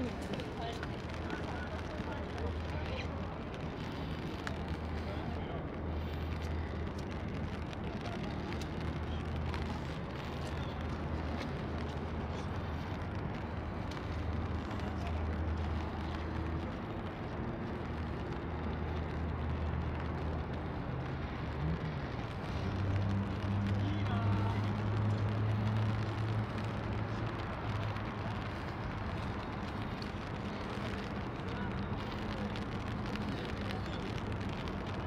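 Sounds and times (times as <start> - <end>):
low city hum: 0.0 - 35.0
rain falling on wet pavement: 0.0 - 35.0.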